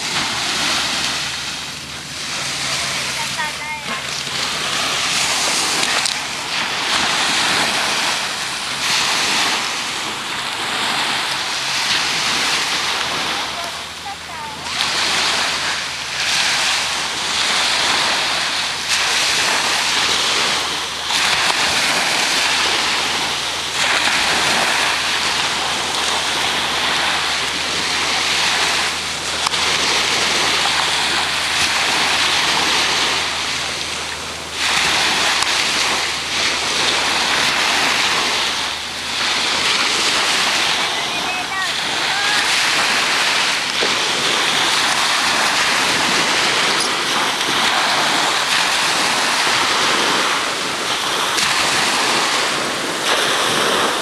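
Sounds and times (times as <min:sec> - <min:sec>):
ocean surf washing: 0:00.0 - 0:54.0.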